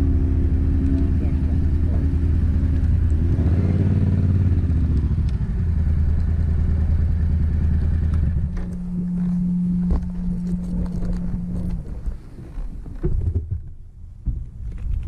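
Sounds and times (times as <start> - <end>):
motorcycle engine pulling away: 0.0 - 12.8.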